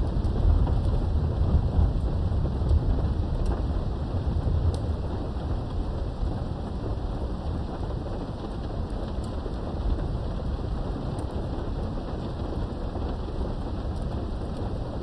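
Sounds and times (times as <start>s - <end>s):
faint raindrop ticks: 0.0s - 15.0s
low rumble of thunder: 0.0s - 15.0s
steady rain through a window: 0.0s - 15.0s.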